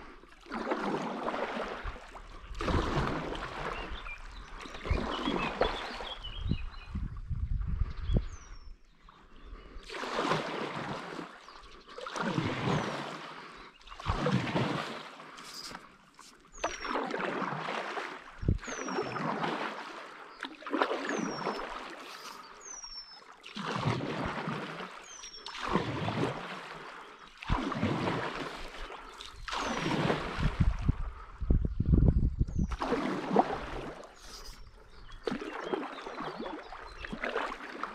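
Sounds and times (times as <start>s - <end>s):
paddle strokes splashing in water: 0.0s - 6.3s, 9.6s - 31.2s, 32.5s - 37.9s.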